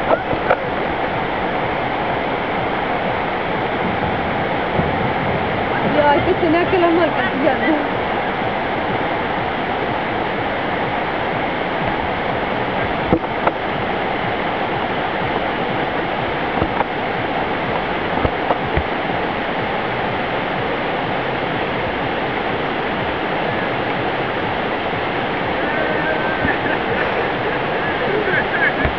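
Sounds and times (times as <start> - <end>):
river water rushing over rapids: 0.0 - 28.9.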